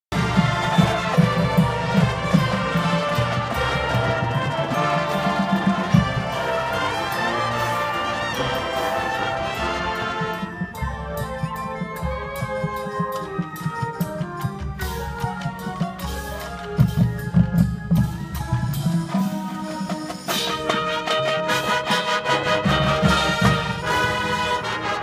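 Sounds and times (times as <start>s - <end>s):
band playing: 0.1s - 25.0s
regular drum beat: 0.1s - 25.0s.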